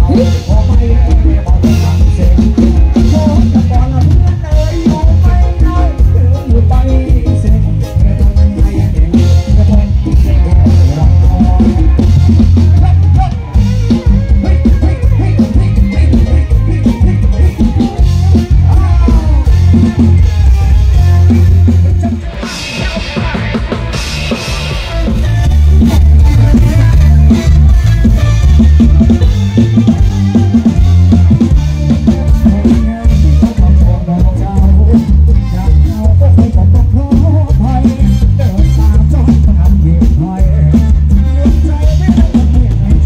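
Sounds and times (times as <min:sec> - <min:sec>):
loud dance music with drums and bass: 0:00.0 - 0:43.0.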